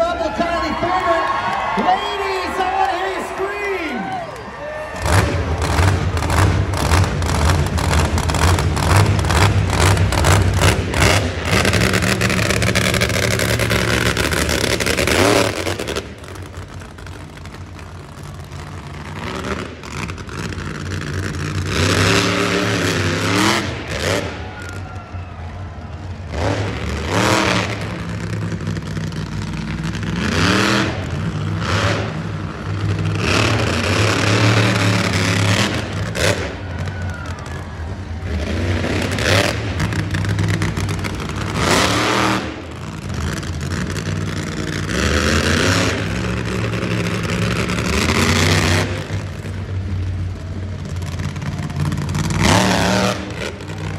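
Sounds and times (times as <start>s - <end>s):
truck engine revving: 4.2s - 53.9s.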